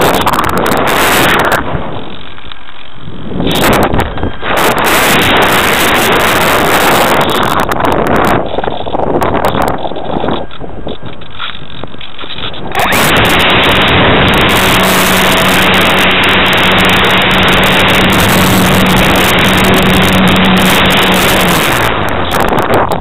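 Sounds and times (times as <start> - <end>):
rush of air: 0.0 - 9.8, 12.5 - 23.0
electric motor and propeller: 0.0 - 23.0.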